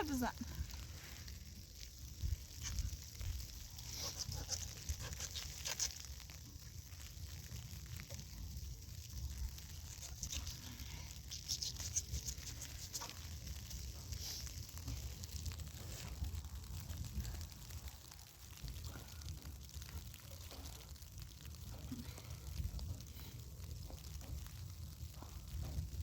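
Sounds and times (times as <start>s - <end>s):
crackly patter: 0.0s - 26.0s.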